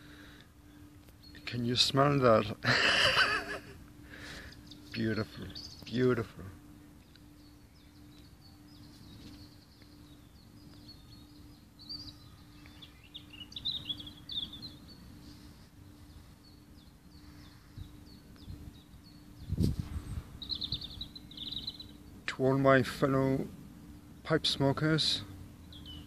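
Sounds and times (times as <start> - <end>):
faint steady hum: 0.0 - 26.0
small birds chirping: 0.0 - 26.0.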